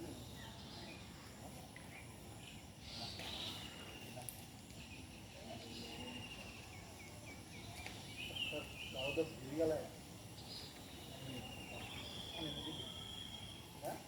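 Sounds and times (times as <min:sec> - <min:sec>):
faint rural outdoor ambience: 0:00.0 - 0:14.0
small bird chirping: 0:00.0 - 0:14.0.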